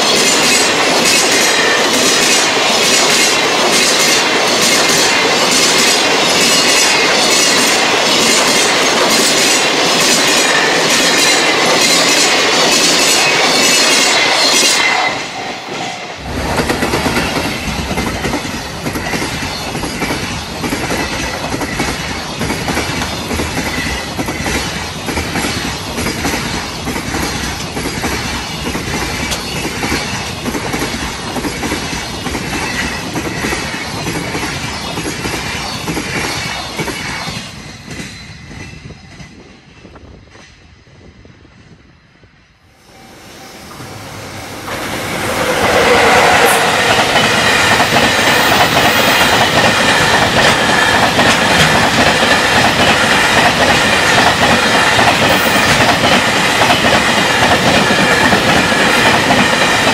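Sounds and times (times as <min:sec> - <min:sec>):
train wheels clattering: 0:00.0 - 0:39.6, 0:43.0 - 0:59.9.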